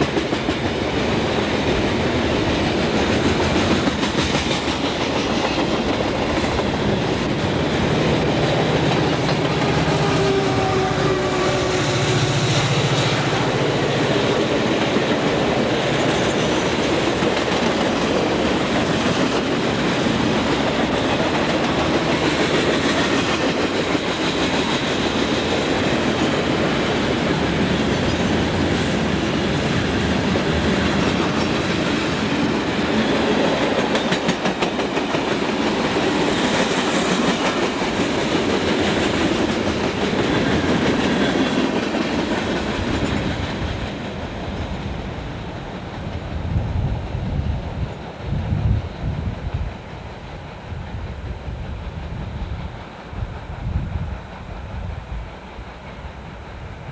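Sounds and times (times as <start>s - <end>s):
train wheels rolling on rails: 0.0s - 56.9s.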